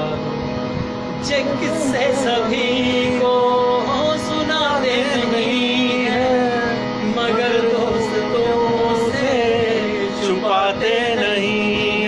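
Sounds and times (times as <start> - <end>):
backing music: 0.0 - 12.0
man singing wavering melody: 0.0 - 12.0.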